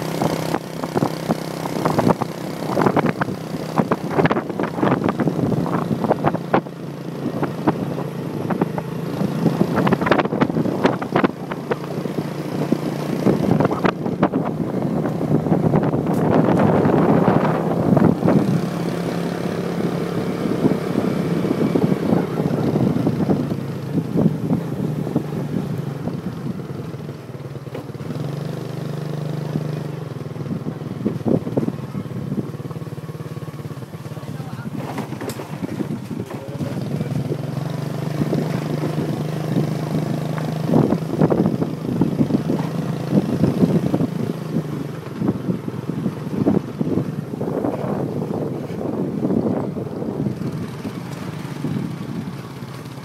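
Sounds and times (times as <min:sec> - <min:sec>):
wind buffeting microphone: 0:00.0 - 0:27.4, 0:30.2 - 0:32.7, 0:34.4 - 0:53.0
motorbike engine running: 0:00.0 - 0:53.0.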